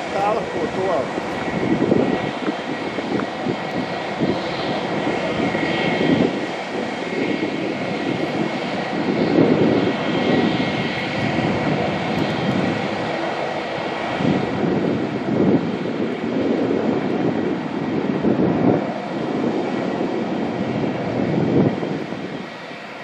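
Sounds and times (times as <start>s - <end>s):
jet engines with high whine: 0.0s - 23.0s.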